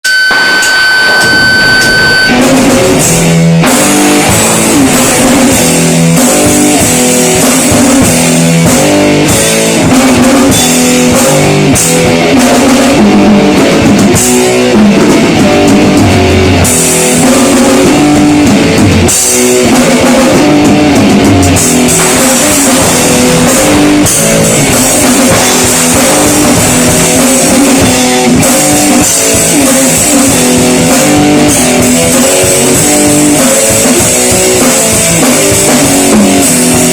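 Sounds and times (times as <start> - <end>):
drum kit: 0.0 - 36.9
electric guitars chugging riff: 0.0 - 36.9.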